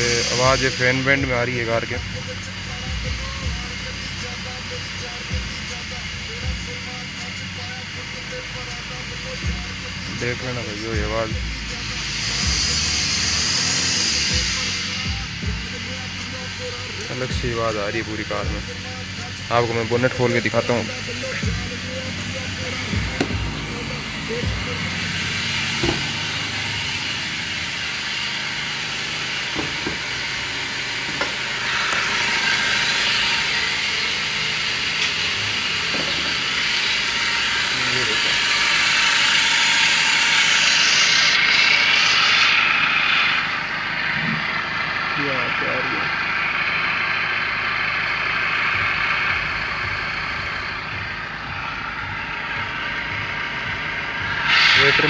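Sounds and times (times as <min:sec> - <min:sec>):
car engine whirring: 0:00.0 - 0:55.0.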